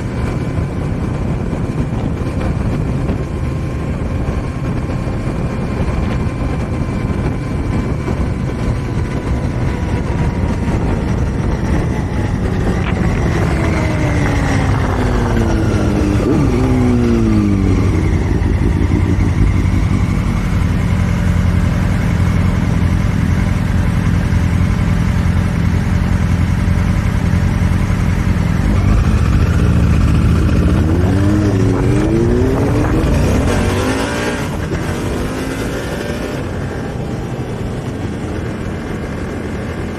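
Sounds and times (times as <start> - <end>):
wind rush: 0.0 - 23.2, 28.2 - 39.9
motorcycle engine idling and revving: 0.0 - 39.9.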